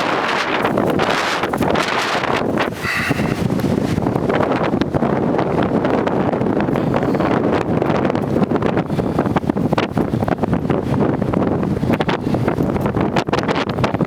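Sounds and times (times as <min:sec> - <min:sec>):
fabric flapping in wind: 0:00.0 - 0:14.0
wind buffeting microphone: 0:00.0 - 0:14.0.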